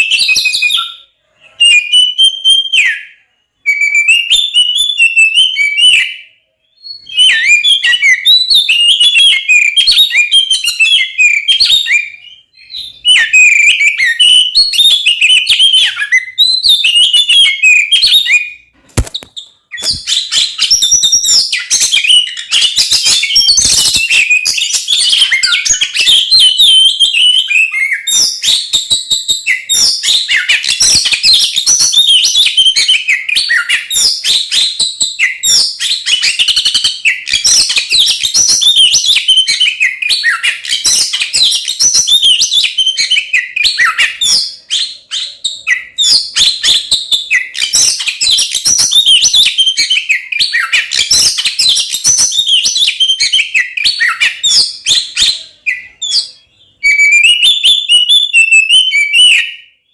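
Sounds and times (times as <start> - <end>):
bird singing rapid whistles: 0.0 - 59.9.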